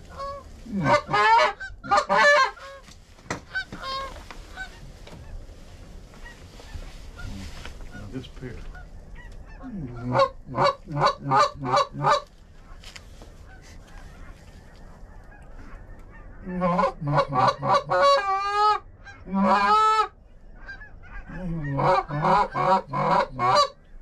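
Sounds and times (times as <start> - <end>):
goose honking: 0.0 - 2.8, 3.4 - 5.4, 6.1 - 23.9.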